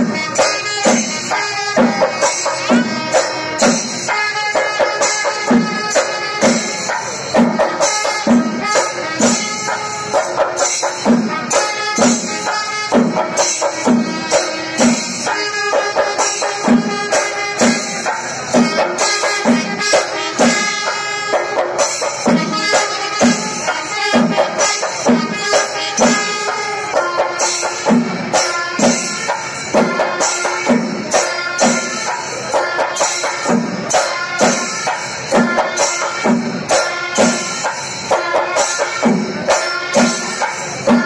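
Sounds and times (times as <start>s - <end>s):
clashing cymbals: 0.0s - 41.0s
drums in a steady beat: 0.0s - 41.0s
wind instruments holding tones: 0.0s - 41.0s.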